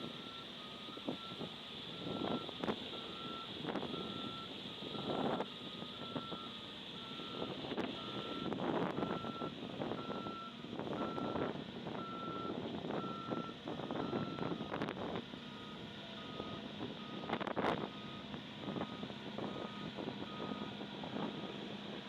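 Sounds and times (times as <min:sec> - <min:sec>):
reversing alarm beeping: 0:00.0 - 0:14.9, 0:15.5 - 0:21.6
heavy paving machinery running: 0:00.0 - 0:22.0.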